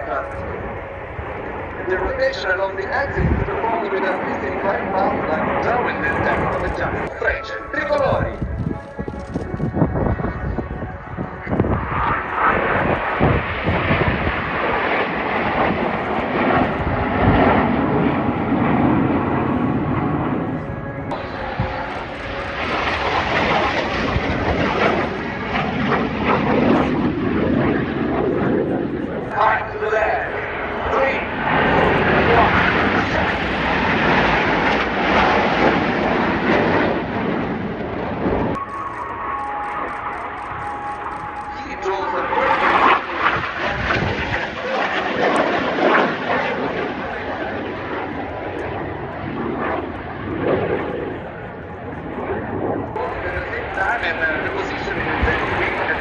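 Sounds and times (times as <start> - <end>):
jet engines roaring overhead: 0.0 - 56.0.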